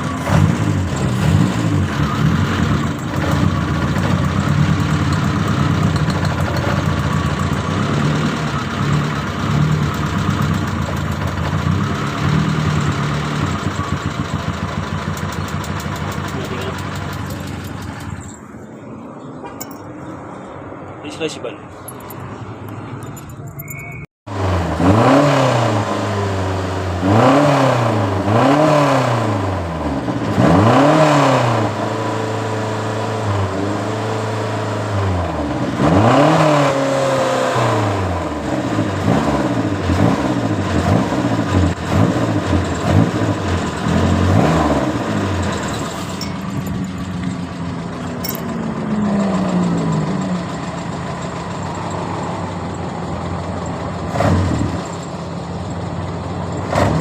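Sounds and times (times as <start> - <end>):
car engine revving and idling: 0.0 - 23.7, 24.3 - 57.0.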